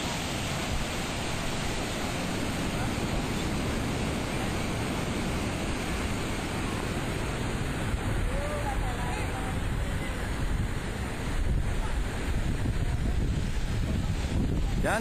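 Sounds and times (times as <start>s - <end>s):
surf hissing: 0.0s - 15.0s
wind buffeting microphone: 0.0s - 15.0s.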